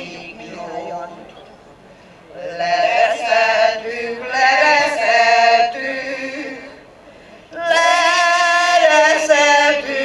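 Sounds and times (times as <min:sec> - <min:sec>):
women's choir singing unaccompanied: 0:00.0 - 0:01.1, 0:02.3 - 0:10.0.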